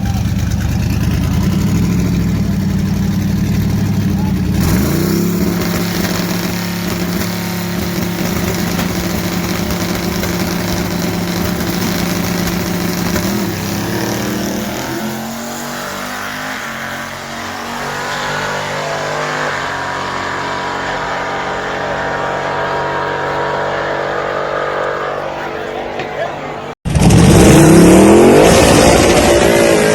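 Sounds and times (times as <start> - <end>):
drag racing car engine revving: 0.0 - 29.9.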